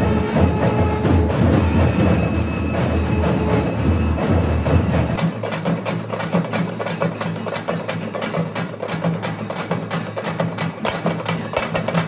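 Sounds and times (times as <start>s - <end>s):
fast busy percussion: 0.0s - 12.0s.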